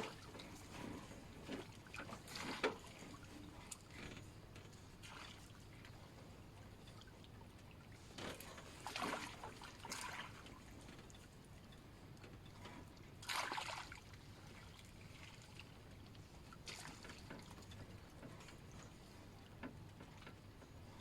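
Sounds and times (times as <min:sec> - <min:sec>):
water sloshing and splashing: 0:00.0 - 0:06.2, 0:06.8 - 0:11.5, 0:12.6 - 0:18.9.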